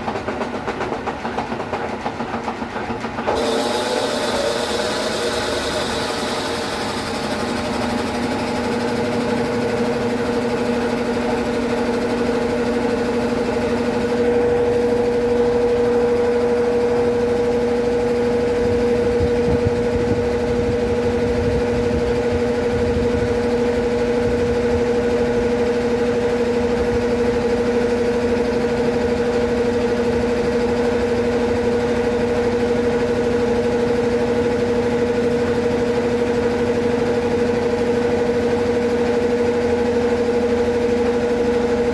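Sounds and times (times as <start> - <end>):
washing machine running: 0.0 - 41.9.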